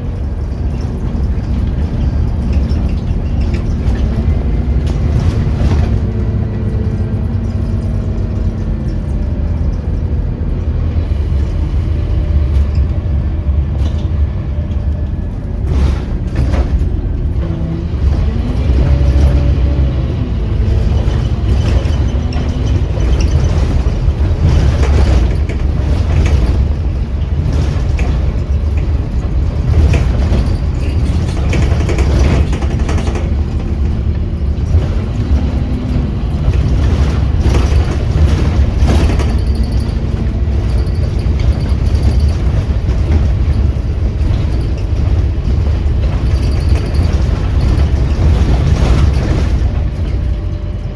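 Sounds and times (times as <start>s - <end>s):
bus engine and road rumble: 0.0s - 50.9s
interior rattles: 0.0s - 50.9s.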